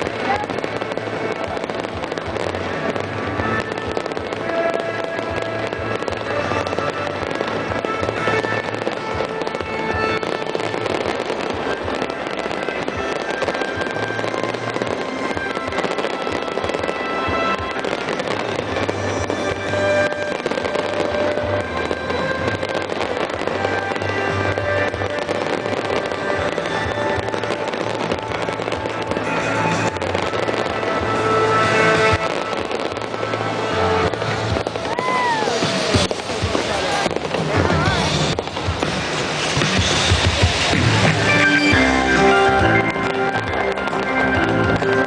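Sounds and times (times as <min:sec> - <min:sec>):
fireworks bursting and crackling: 0:00.0 - 0:45.0
music playing: 0:00.0 - 0:45.0.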